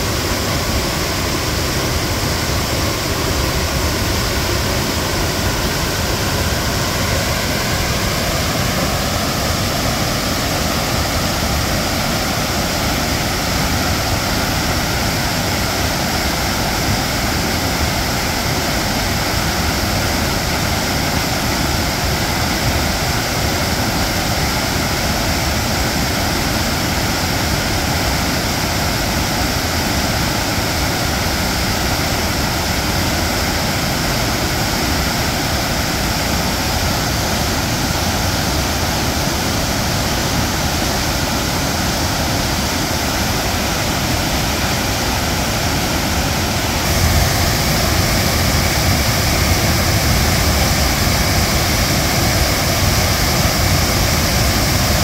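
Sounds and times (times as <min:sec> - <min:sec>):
stream rushing over boulders: 0:00.0 - 0:55.0.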